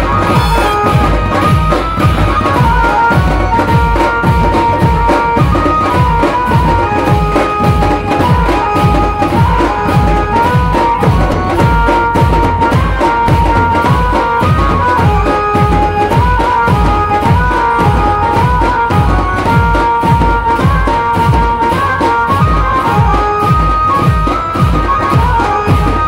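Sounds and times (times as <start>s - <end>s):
dhol drums playing fast beat: 0.0s - 26.0s.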